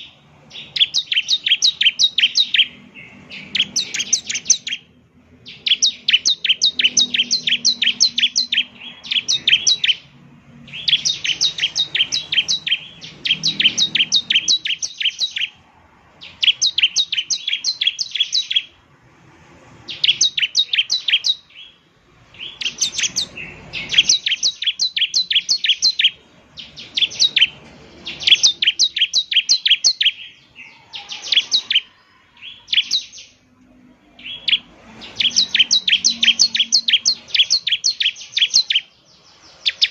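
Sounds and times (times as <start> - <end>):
bird chirping high notes: 0.0 - 15.6, 16.2 - 18.8, 19.9 - 33.4, 34.1 - 39.9.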